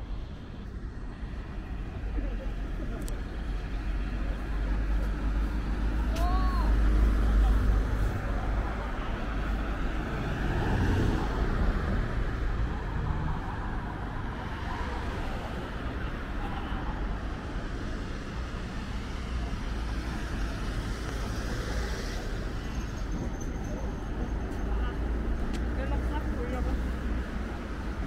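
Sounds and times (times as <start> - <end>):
passing cars traffic noise: 0.0 - 28.0.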